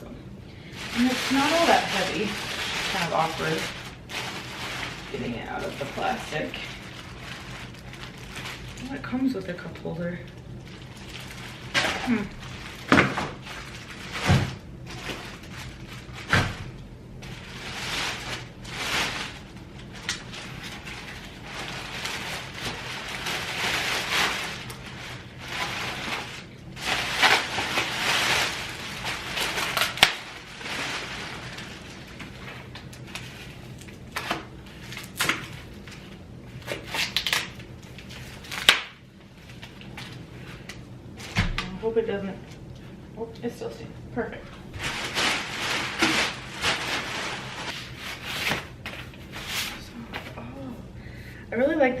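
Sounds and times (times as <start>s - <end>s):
packaging rustling and crinkling: 0.6s - 41.7s, 44.5s - 50.3s.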